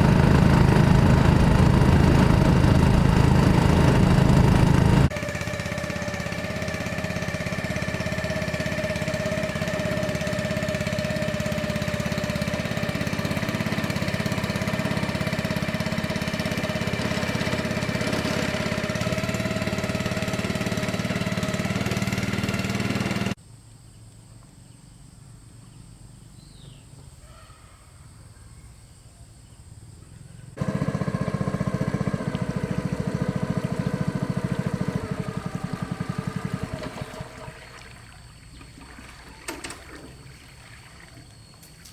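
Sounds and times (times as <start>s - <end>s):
small boat engine running: 0.0s - 23.4s, 30.2s - 41.9s.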